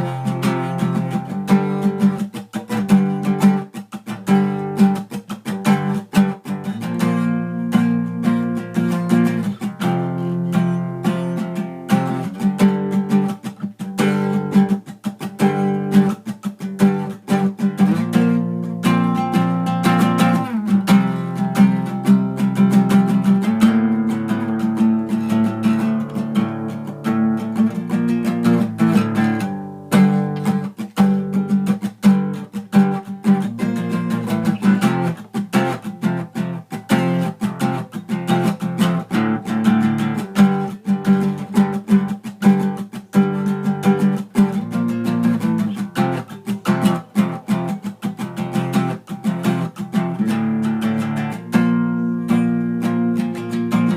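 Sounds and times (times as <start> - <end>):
acoustic guitar music: 0.0 - 53.9.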